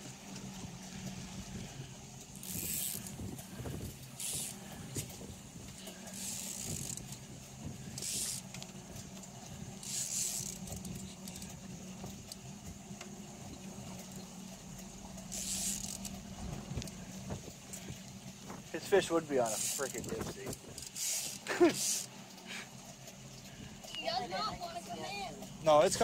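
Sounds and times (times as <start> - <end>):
boat motor humming: 0.0 - 26.0
fishing reel ticking: 0.1 - 26.0.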